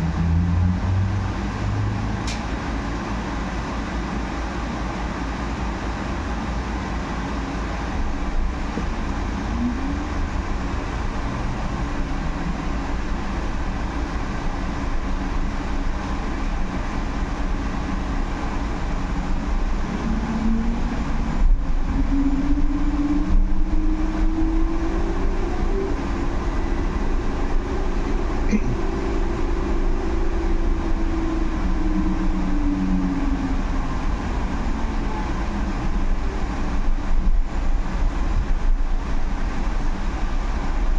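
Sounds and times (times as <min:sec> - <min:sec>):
bus cabin rumble and road noise: 0:00.0 - 0:40.9.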